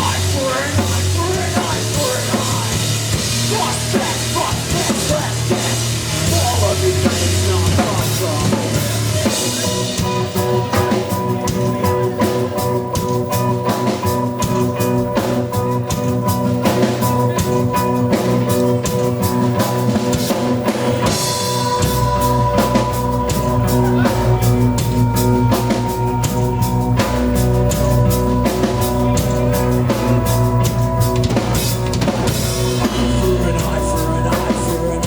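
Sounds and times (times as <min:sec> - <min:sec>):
bass guitar: 0:00.0 - 0:35.0
guitar notes: 0:00.0 - 0:35.0
held keyboard notes: 0:00.0 - 0:35.0
pounding drum kit: 0:00.0 - 0:35.0.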